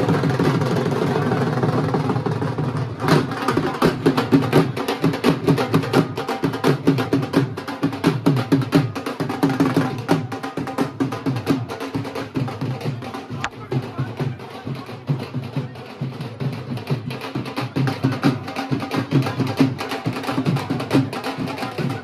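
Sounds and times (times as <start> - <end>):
drums beaten in fast rhythm: 0.0 - 22.0.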